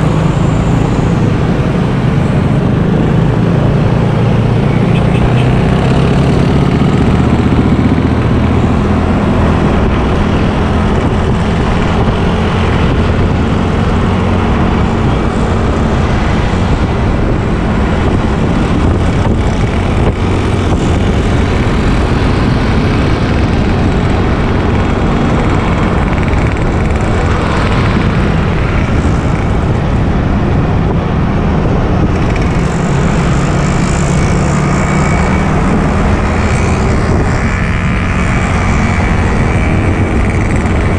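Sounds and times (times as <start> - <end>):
motorbike engine humming: 0.0 - 40.9
wind noise over microphone: 0.0 - 40.9.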